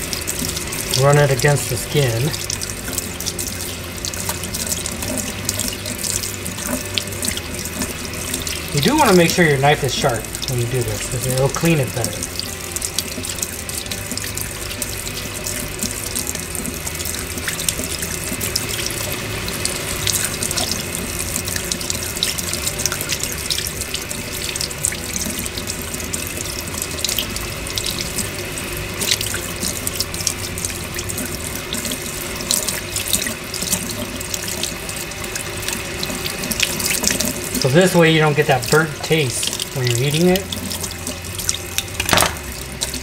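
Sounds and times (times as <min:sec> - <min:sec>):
tap water running into sink: 0:00.0 - 0:43.0.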